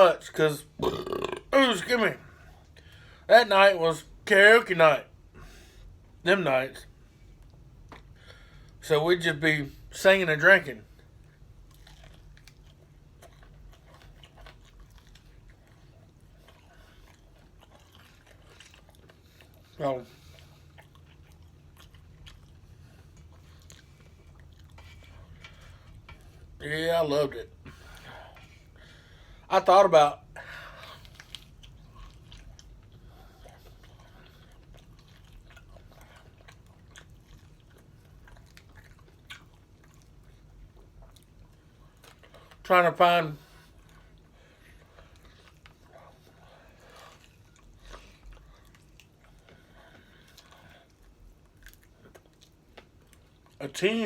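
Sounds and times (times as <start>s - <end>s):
faint chewing: 6.8s - 8.8s, 10.8s - 29.5s, 30.2s - 54.0s.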